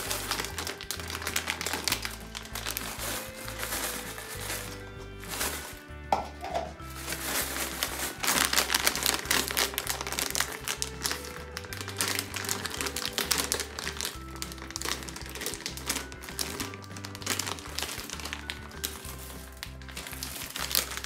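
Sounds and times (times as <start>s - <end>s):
background music with low bass: 0.0s - 21.0s
plastic candy bag crinkling: 0.0s - 21.0s.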